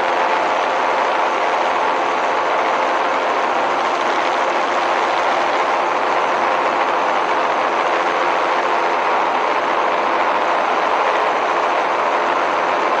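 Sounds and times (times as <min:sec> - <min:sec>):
engine and propeller drone: 0:00.0 - 0:13.0
rushing airflow: 0:00.0 - 0:13.0.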